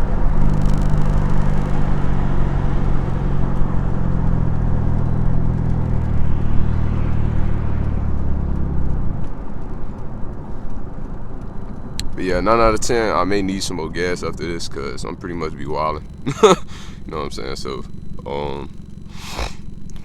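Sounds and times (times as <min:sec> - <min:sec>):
car exhaust drone: 0:00.0 - 0:20.0
road rumble: 0:00.0 - 0:20.0.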